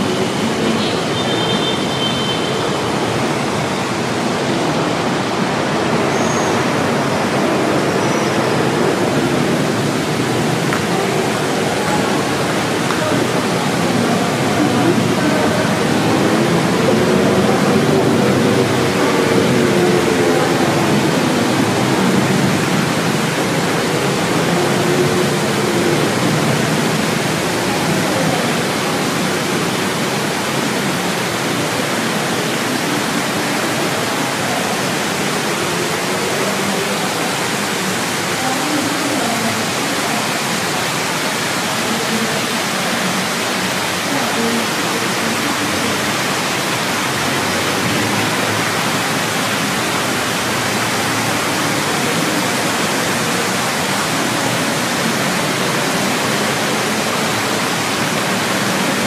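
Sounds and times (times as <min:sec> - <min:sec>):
faint voices: 0:00.0 - 0:59.0
steady rushing noise: 0:00.0 - 0:59.0.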